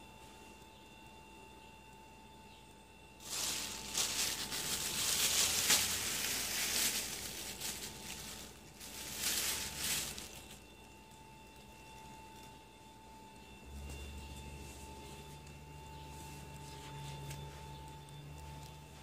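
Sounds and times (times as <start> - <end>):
crinkly material rustling: 3.2 - 19.0.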